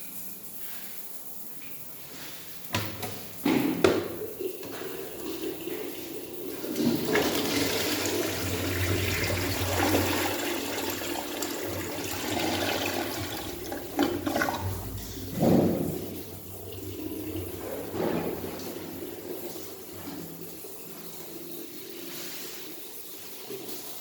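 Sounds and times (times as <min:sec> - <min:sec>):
toilet flushing: 0:02.0 - 0:24.0.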